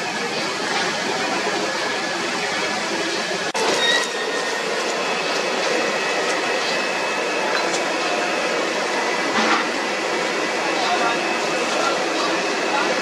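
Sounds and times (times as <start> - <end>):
steady rushing workshop noise: 0.0 - 13.0.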